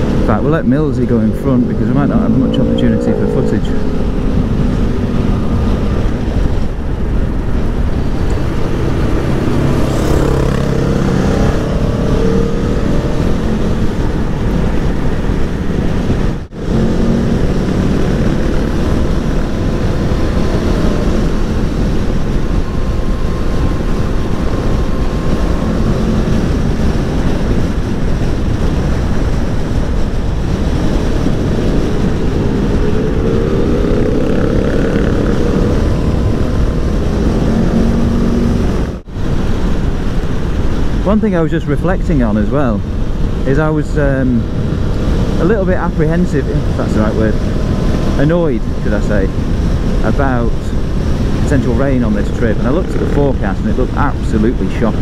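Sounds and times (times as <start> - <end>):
motorcycle engine accelerating: 0.0 - 41.2, 42.1 - 55.0
wind buffeting microphone: 0.0 - 55.0.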